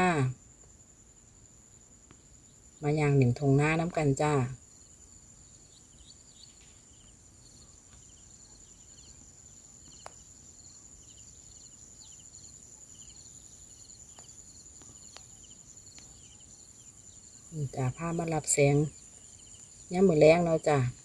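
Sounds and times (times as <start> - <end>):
insect chirps: 0.0 - 21.0
insect chorus drone: 0.0 - 21.0.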